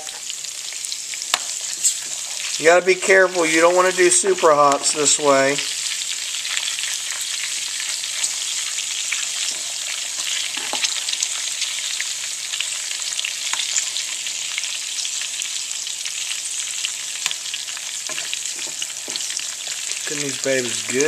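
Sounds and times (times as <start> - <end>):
peppers sizzling in oil: 0.0 - 21.0.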